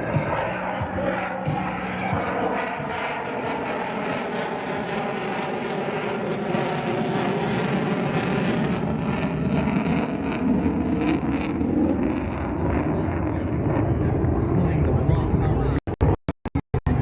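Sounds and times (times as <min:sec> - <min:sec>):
jet engine roaring in flight: 0:00.0 - 0:16.2.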